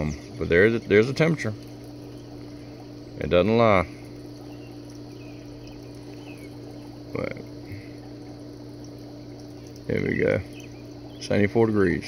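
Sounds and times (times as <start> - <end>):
low two-tone hum: 0.0 - 12.0.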